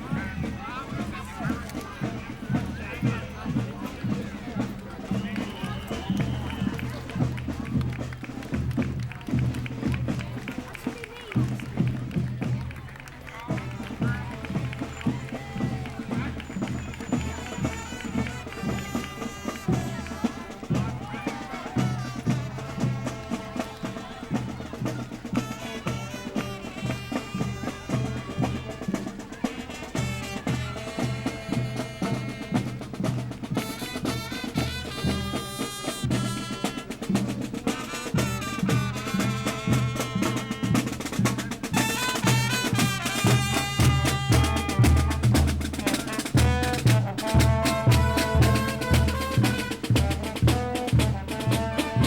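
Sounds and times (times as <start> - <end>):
marching band playing: 0.0 - 52.0
steady drum beat: 0.0 - 52.0.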